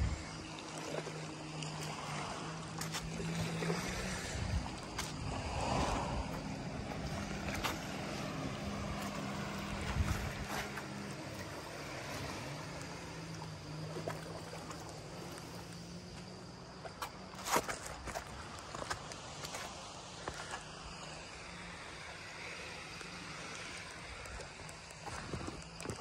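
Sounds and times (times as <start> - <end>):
boat engine droning: 0.0 - 26.0
wind and water wash: 0.0 - 26.0.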